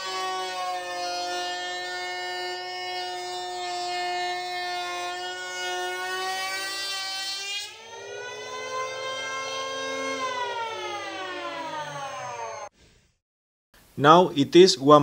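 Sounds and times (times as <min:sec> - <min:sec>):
electric planer motor whine: 0:00.0 - 0:12.7.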